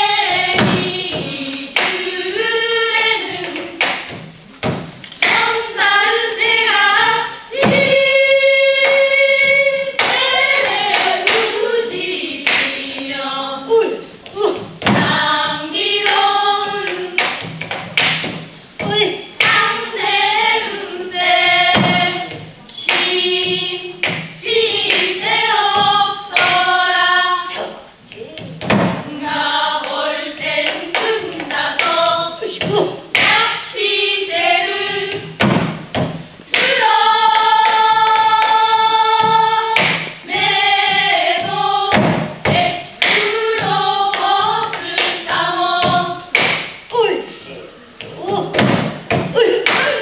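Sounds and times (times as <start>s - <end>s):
women singing in unison: 0.0s - 18.2s, 18.8s - 35.8s, 36.5s - 46.6s
drum strokes: 0.0s - 47.4s, 48.0s - 50.0s.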